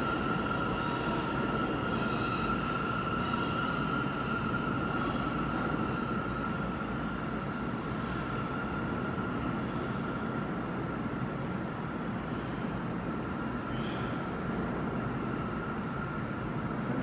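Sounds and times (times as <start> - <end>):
subway wheel squeal: 0.0 - 16.9
train low rumble: 0.0 - 17.0.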